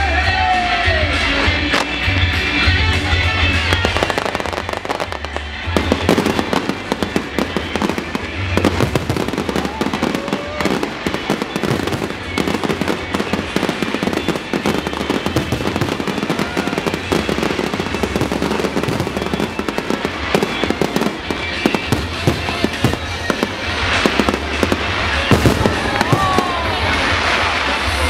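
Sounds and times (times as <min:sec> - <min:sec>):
fireworks bangs and crackles: 0:00.1 - 0:28.0.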